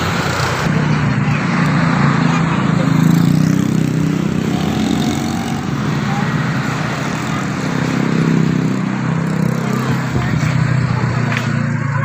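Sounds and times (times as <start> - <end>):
heavy vehicle engine droning: 0.0 - 12.0.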